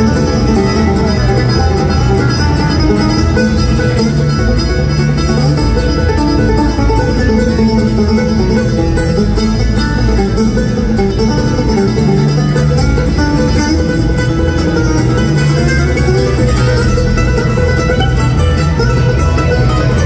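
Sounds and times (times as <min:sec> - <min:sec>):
acoustic guitars: 0:00.0 - 0:20.0
fiddle: 0:00.0 - 0:20.0
mandolin: 0:00.0 - 0:20.0
upright bass: 0:00.0 - 0:20.0.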